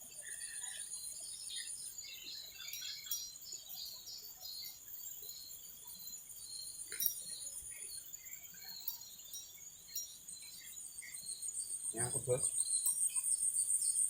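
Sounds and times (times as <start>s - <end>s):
birds chirping: 0.0s - 14.0s
insects droning: 0.0s - 14.0s.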